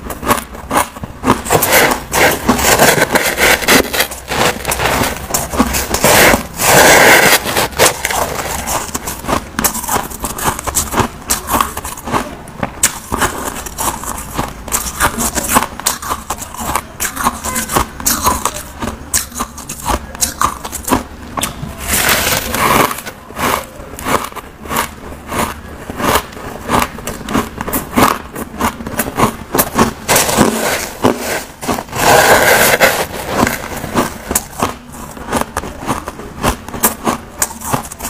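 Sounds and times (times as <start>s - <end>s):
chewing ice: 0.0s - 38.0s
ice crunching with plastic spoon: 0.0s - 38.0s.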